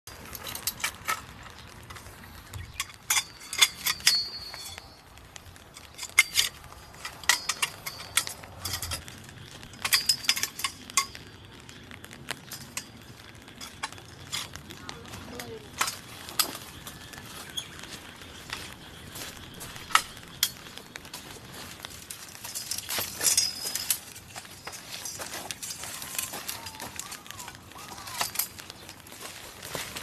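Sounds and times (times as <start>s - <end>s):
bamboo poles knocking and clacking: 0.0s - 30.0s.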